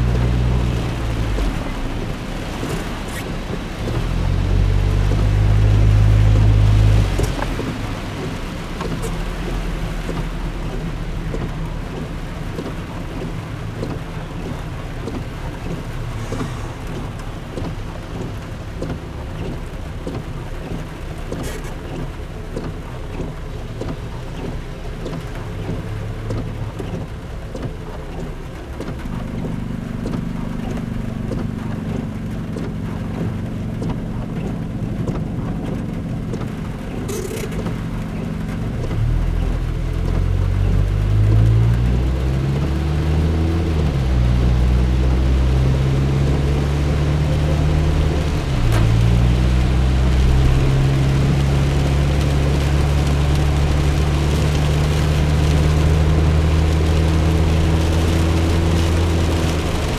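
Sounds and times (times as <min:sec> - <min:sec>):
car rumbling on wet road: 0:00.0 - 0:59.9
rain on car windshield: 0:00.0 - 0:59.9.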